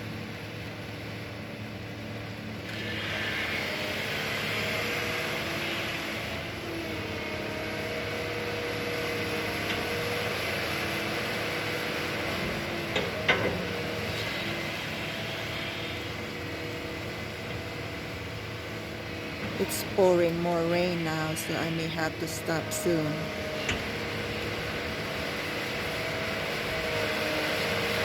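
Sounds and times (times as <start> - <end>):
excavator engine drone: 0.0 - 28.0.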